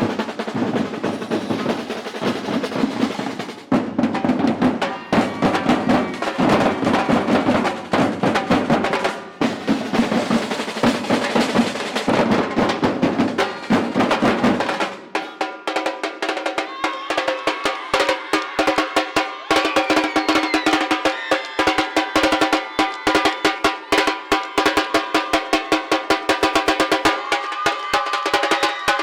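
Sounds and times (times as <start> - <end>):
samba percussion drumming: 0.0 - 29.0.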